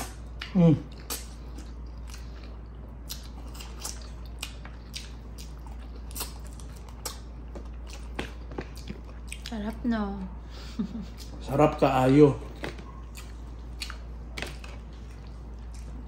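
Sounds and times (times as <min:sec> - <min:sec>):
person chewing food: 0:00.0 - 0:09.6, 0:11.0 - 0:11.5, 0:12.5 - 0:16.0.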